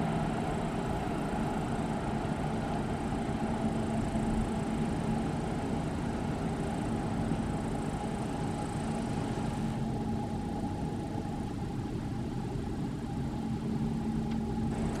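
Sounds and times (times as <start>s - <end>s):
electric trains rumbling: 0.0s - 15.0s
electrical hum: 0.0s - 15.0s.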